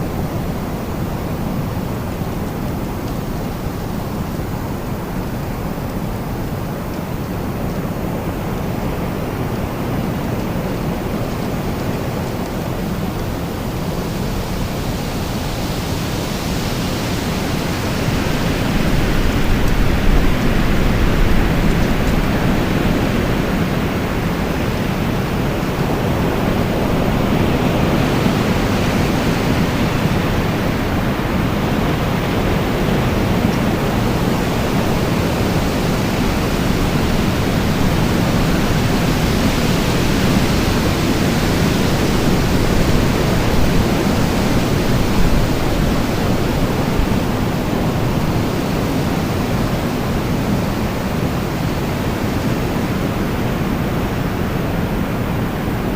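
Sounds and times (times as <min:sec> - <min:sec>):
wind blowing: 0:00.0 - 0:55.9.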